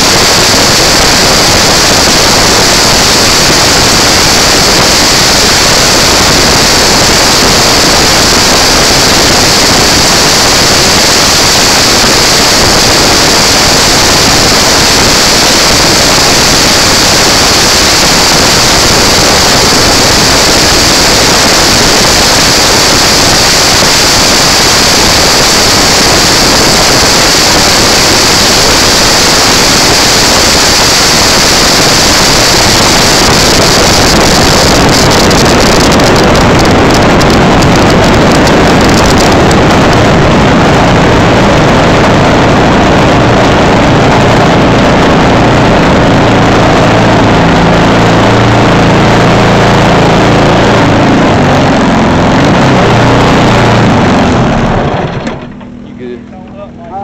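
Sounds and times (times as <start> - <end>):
wind rush: 0.0 - 55.8
go-kart engine: 0.0 - 57.0.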